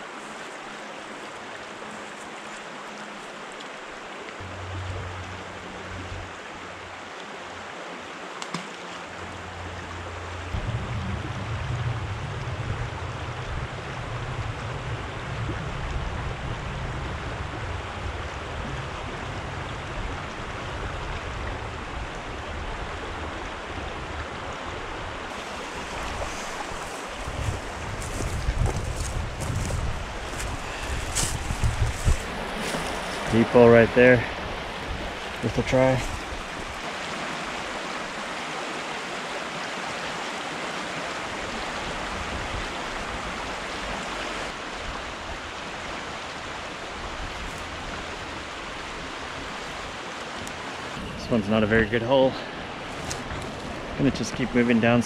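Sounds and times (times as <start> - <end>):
creek flowing over riffle: 0.0 - 55.0.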